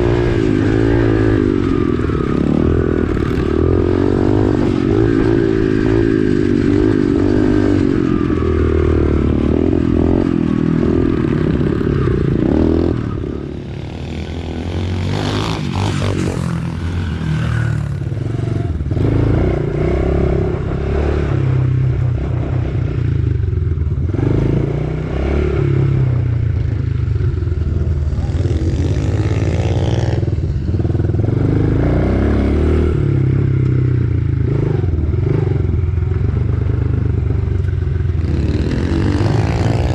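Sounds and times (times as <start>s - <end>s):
motorbike engine revving: 0.0s - 23.4s, 24.0s - 39.9s.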